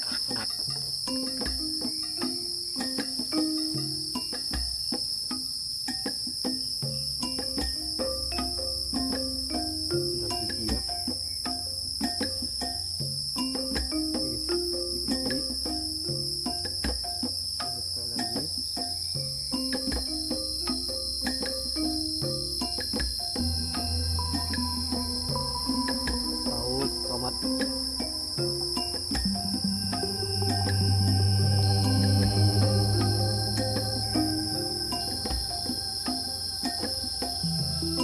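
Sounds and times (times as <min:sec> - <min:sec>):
crickets and insects chirping: 0:00.0 - 0:38.0
soft background music: 0:06.9 - 0:18.4, 0:19.1 - 0:38.0.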